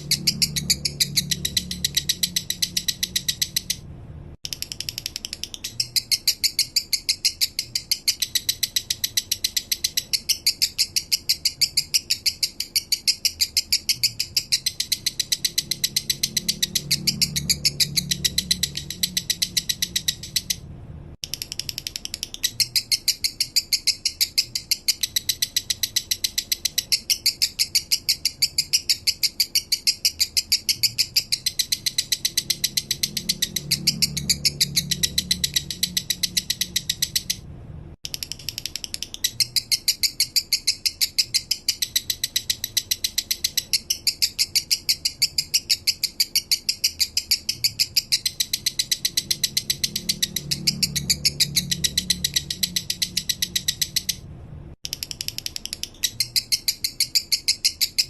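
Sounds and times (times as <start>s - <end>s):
lovebird chirping: 0.0s - 3.8s, 4.4s - 37.4s, 38.1s - 58.0s.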